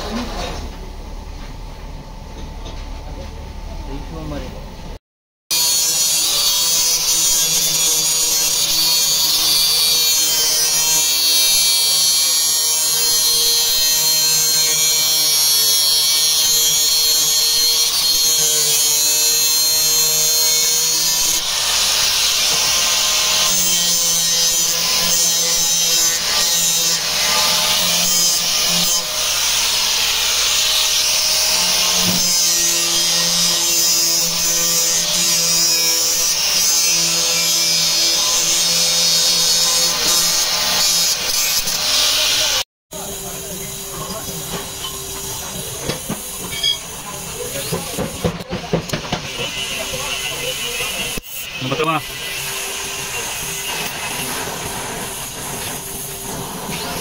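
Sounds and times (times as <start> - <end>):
angle grinder grinding metal: 5.5 - 57.0.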